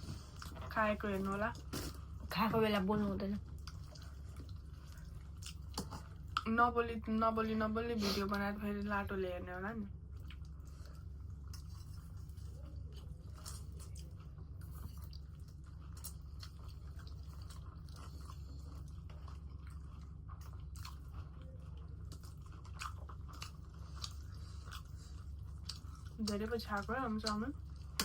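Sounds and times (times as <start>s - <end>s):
chewing food: 0.0s - 2.3s, 3.4s - 6.5s, 10.0s - 28.0s
steady low hum: 0.0s - 28.0s.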